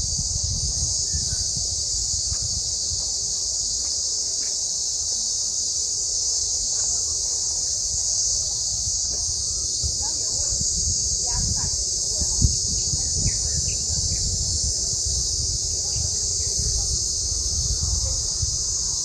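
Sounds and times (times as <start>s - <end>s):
low fluctuating rumble: 0.0s - 3.7s, 7.0s - 19.0s
cicadas singing: 0.0s - 19.0s.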